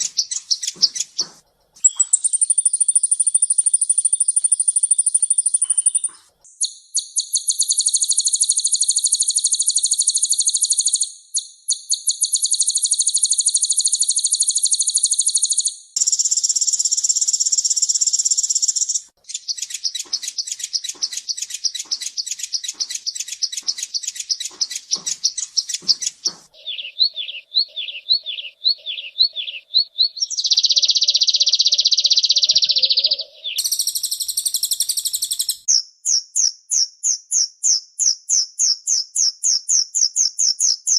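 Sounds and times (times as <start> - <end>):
sunbirds singing trills: 0.0 - 40.9.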